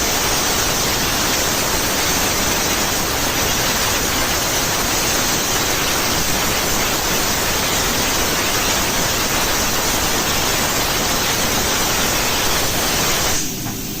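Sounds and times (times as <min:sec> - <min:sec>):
plasma cutter hissing: 0:00.0 - 0:14.0.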